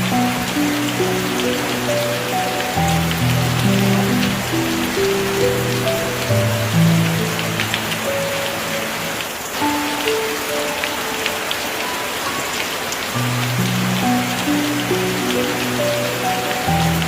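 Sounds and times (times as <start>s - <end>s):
heavy rain: 0.0s - 17.0s
rain drop taps: 0.0s - 17.0s
soft music of held notes: 0.0s - 17.0s.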